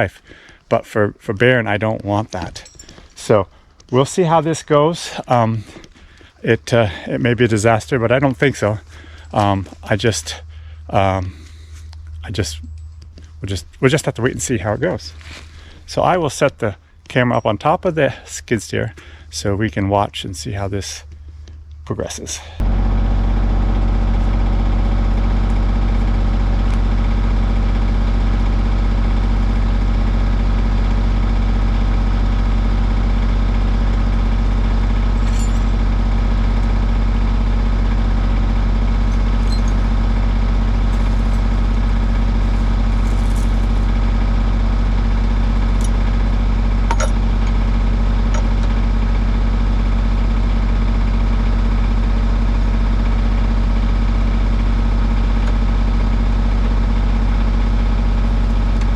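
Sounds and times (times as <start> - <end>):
skid steer engine idling: 0.0 - 58.9.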